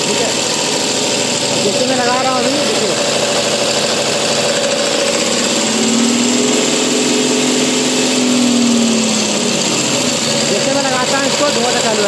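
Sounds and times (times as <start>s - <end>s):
truck diesel engine revving: 0.0s - 12.0s.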